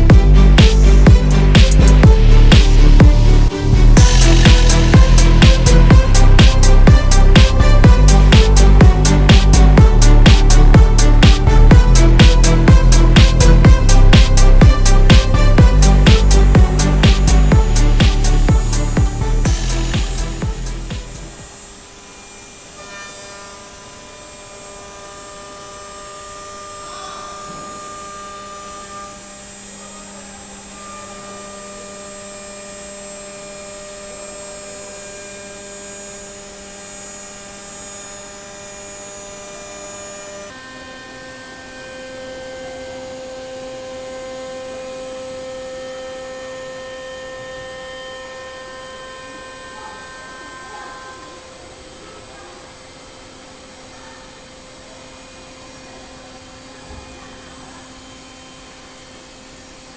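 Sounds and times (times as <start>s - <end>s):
cnc router spindle whine: 2.2s - 59.9s.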